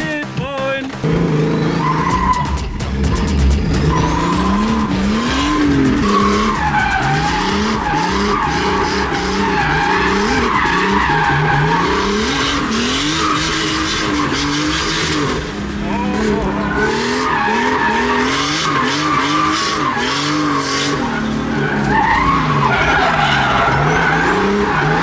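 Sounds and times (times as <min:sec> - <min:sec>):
turbocharged car engine revving: 0:00.0 - 0:25.0
tyres squealing: 0:01.0 - 0:25.0.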